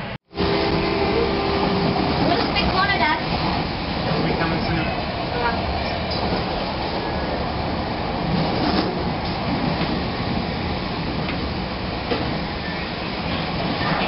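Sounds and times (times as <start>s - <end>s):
train rumble inside car: 0.0s - 14.0s.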